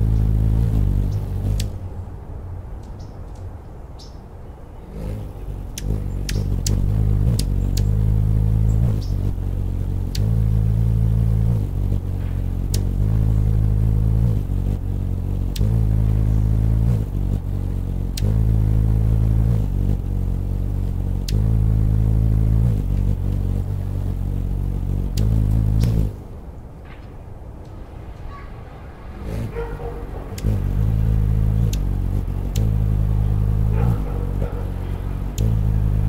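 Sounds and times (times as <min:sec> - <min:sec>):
hummingbird wingbeat hum: 0:00.0 - 0:36.0.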